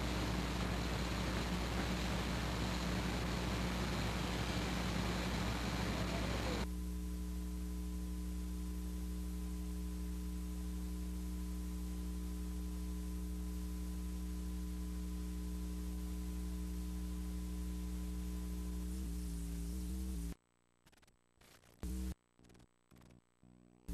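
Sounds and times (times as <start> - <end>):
mains hum: 0.0 - 23.9
tape hiss: 0.0 - 23.9.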